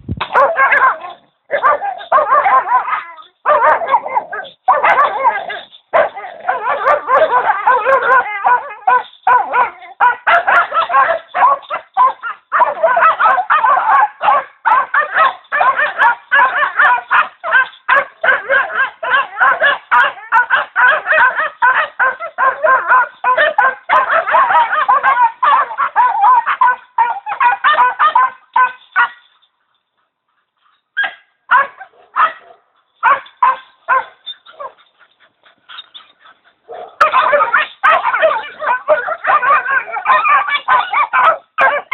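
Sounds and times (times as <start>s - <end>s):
dogs barking and yapping: 0.2s - 41.9s.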